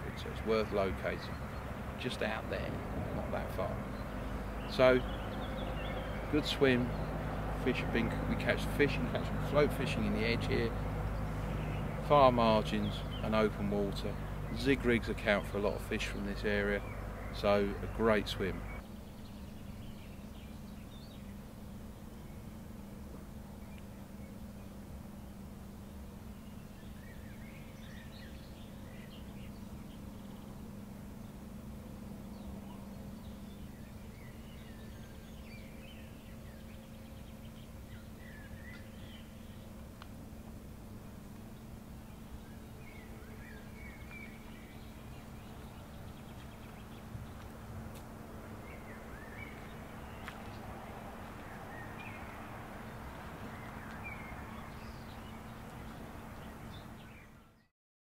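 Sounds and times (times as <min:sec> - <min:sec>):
small birds chirping and singing: 0:00.0 - 0:40.1, 0:41.0 - 0:57.7
low hum and rumble: 0:00.0 - 0:57.2.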